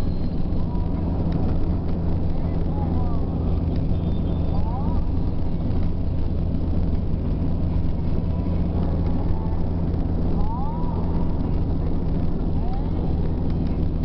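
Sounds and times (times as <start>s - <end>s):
road noise: 0.0s - 14.0s
vehicle engine drone: 0.0s - 14.0s.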